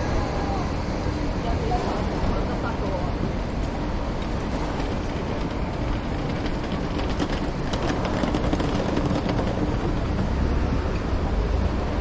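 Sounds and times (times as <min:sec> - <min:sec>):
engine hum: 0:00.0 - 0:12.0
passing vehicles rumbling: 0:00.0 - 0:12.0.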